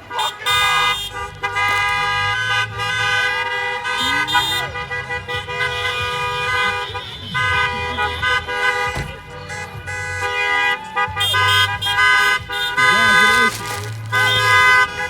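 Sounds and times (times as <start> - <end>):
car engines humming: 0.0 - 15.0
car horns honking: 0.0 - 15.0.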